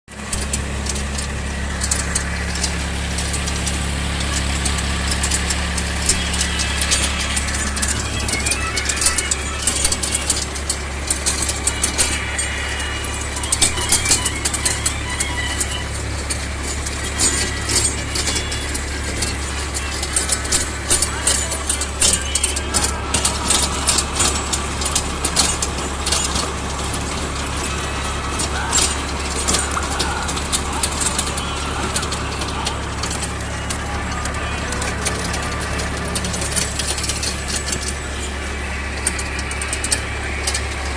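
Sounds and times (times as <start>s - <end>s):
tractor diesel engine running: 0.0s - 40.9s
rotavator clicking and clattering: 0.1s - 40.9s.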